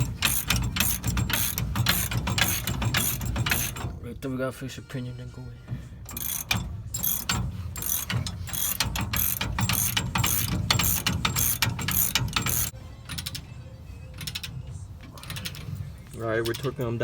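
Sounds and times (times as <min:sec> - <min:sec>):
hand ratchet clicking: 0:00.0 - 0:03.9, 0:06.1 - 0:13.4, 0:14.2 - 0:17.0.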